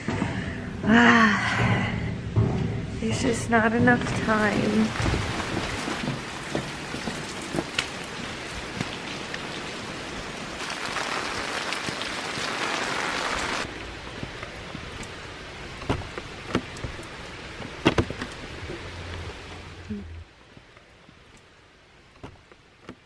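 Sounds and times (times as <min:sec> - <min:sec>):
rain pattering on foliage: 0:04.0 - 0:23.0.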